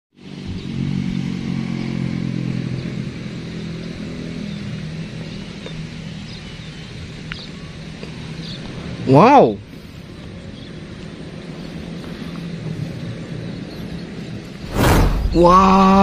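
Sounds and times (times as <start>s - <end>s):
engine running: 0.2s - 16.0s.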